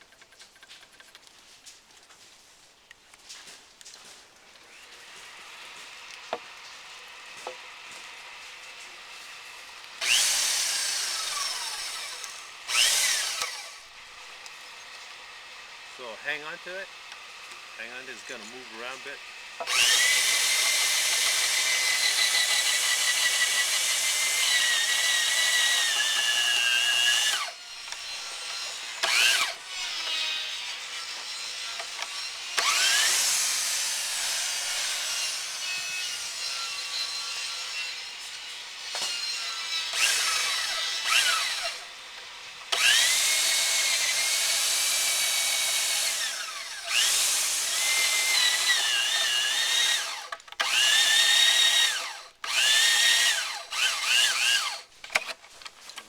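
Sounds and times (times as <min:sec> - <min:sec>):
electric drill boring into wood: 0:04.7 - 0:55.4.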